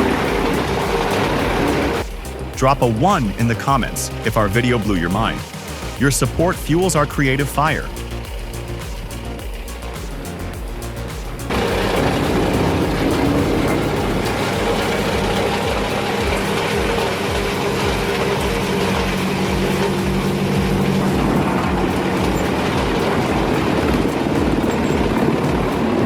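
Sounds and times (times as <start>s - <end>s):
heavy machine engine throbbing: 0.0s - 26.0s.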